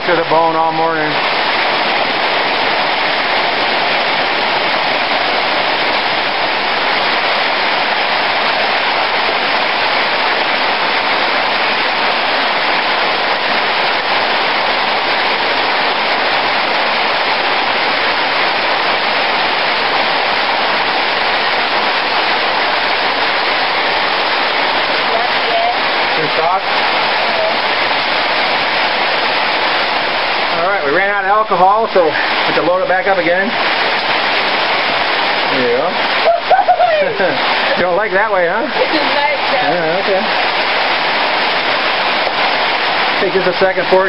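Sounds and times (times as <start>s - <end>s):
heavy rain pouring: 0.0s - 44.0s.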